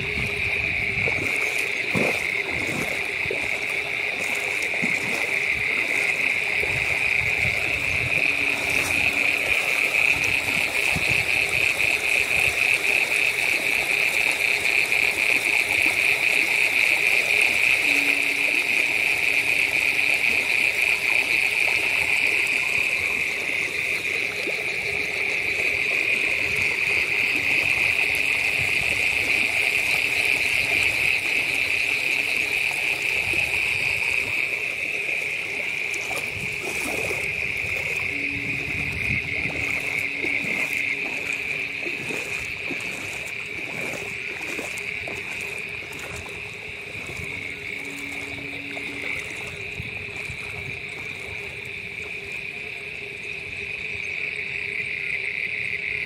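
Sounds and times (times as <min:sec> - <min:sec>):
shrill pulsing trill: 0:00.0 - 0:52.5
water trickling: 0:00.0 - 0:55.0.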